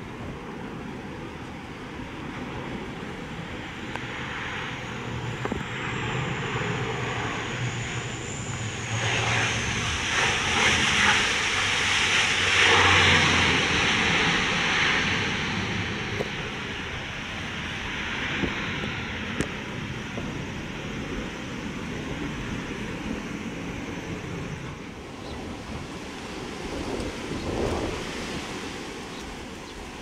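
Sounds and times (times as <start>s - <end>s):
high engine whine: 0.0s - 30.0s
turboprop airliner rolling on runway: 0.0s - 30.0s.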